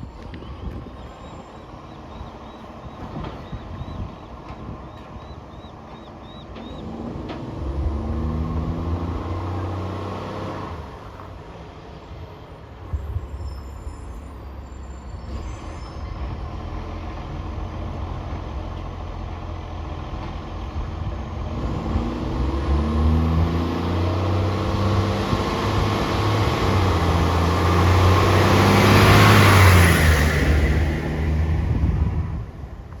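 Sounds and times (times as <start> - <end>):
diesel bus engine accelerating: 0.0 - 33.0.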